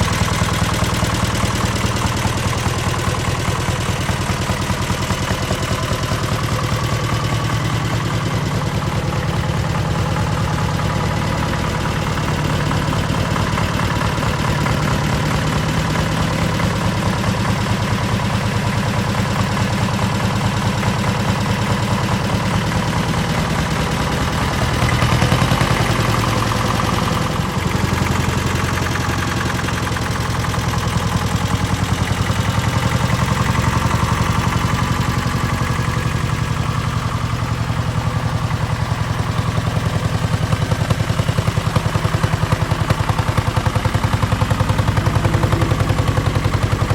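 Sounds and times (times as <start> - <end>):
diesel tractor engine chugging: 0.0 - 46.9.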